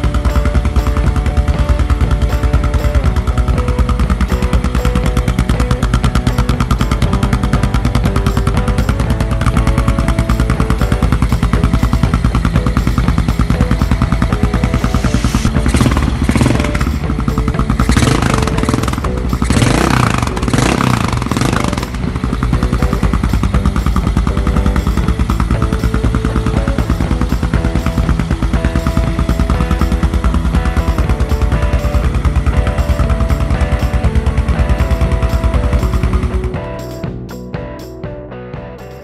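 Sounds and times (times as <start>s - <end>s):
motorcycle engine revving: 0.0s - 38.0s
background music with steady beat: 0.0s - 39.0s.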